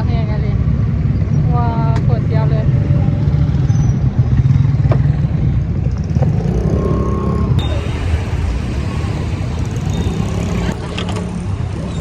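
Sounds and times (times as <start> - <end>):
motor vehicle engine rumbling: 0.0 - 12.0.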